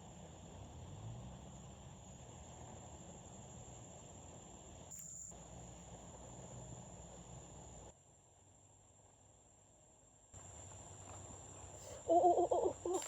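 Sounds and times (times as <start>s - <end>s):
crickets chirring: 0.0s - 8.0s, 8.6s - 13.0s
low background noise: 0.0s - 13.0s.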